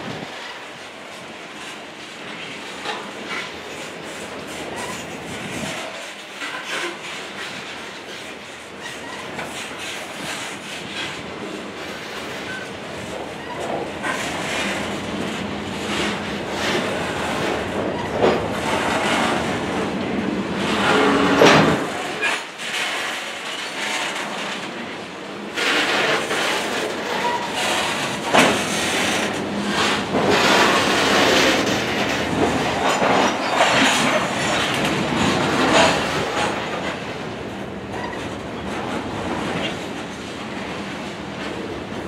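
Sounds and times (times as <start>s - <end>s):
freight train wheels on rails: 0.0s - 42.0s.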